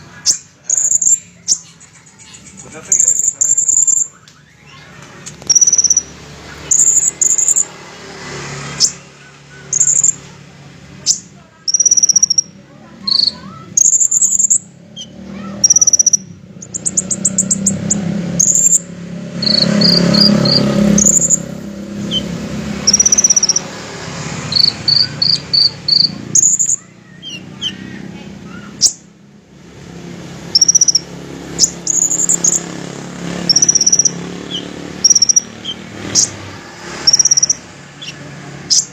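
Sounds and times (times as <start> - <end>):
bird high chirps and trills: 0.0 - 10.4, 11.0 - 29.2, 30.0 - 38.9.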